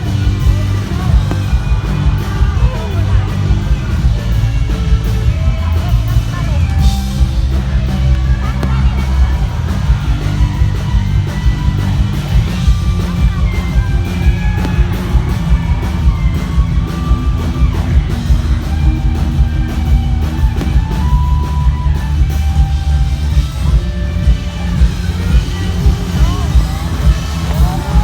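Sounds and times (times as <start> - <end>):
crowd yelling: 0.0 - 28.0
live rock band playing: 0.0 - 28.0.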